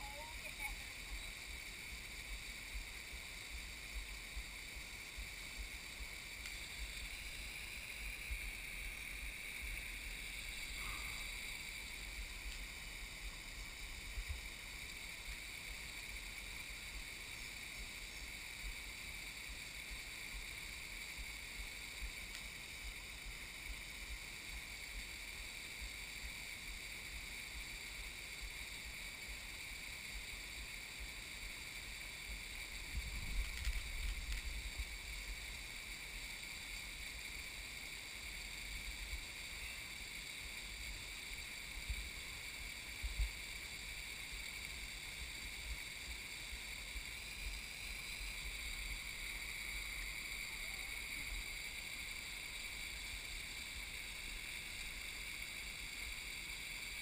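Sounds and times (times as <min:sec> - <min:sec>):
small waterfall hissing: 0:00.0 - 0:57.0.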